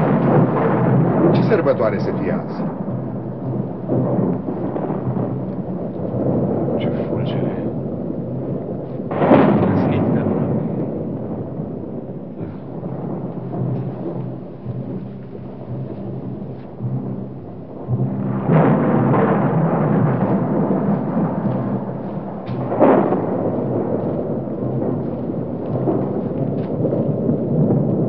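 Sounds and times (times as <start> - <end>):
deep continuous rumble: 0.0 - 28.0.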